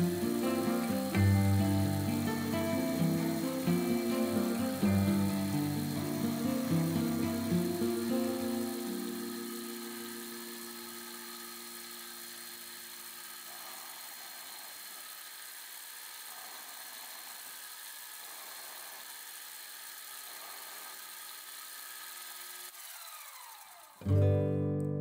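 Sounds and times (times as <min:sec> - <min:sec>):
metal cutting hiss: 0:00.0 - 0:22.6
milling machine motor whine: 0:00.0 - 0:24.1.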